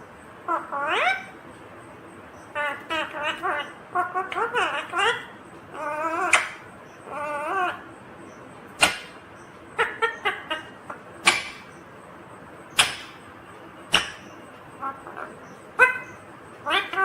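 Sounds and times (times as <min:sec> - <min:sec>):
parrot calling: 0:00.4 - 0:01.4, 0:02.3 - 0:08.0, 0:08.8 - 0:11.9, 0:12.7 - 0:17.0.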